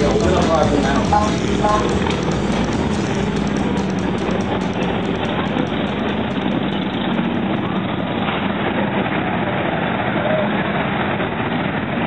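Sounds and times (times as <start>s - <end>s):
voices: 0.0s - 10.6s
motorcycle engines droning: 0.0s - 12.0s.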